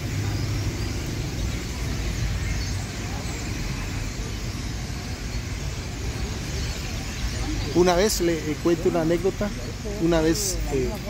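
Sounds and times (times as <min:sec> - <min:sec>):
flock of birds chattering: 0:00.0 - 0:11.0
low rumble of street traffic: 0:00.0 - 0:11.0.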